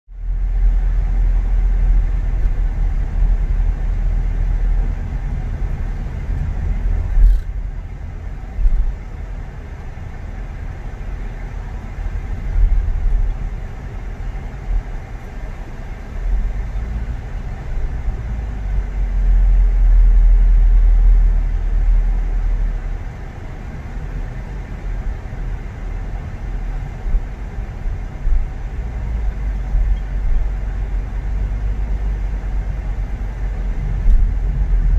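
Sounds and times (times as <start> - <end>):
car engine and road noise: 0.1 - 34.9.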